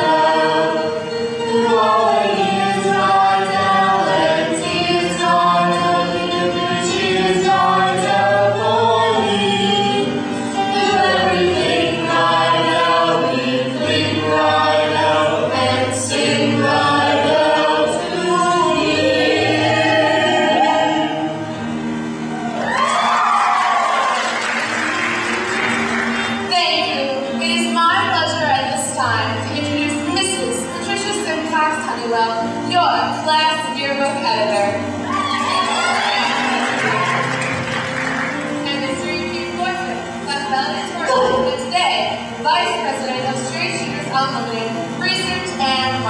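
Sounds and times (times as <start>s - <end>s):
choir singing in harmony: 0.0s - 46.0s.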